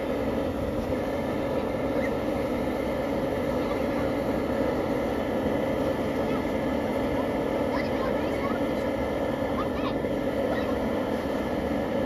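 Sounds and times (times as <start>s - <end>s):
propane burner rushing: 0.0s - 12.0s.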